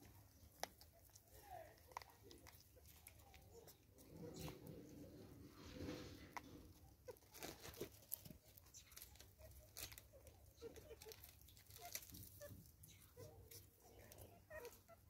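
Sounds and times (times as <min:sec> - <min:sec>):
monkey crunching seeds: 0:00.0 - 0:15.0.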